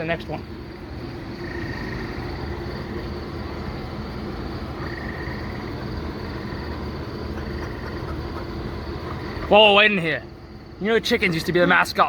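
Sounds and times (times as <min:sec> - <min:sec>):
insects chirping: 0:00.0 - 0:12.0
steady background hum: 0:00.0 - 0:12.0.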